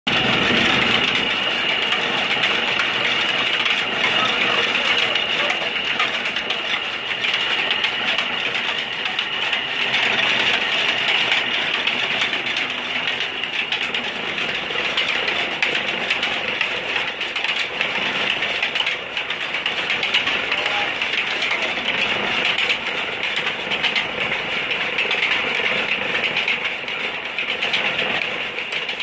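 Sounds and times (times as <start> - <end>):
oil expeller mechanical clatter: 0.1 - 29.0.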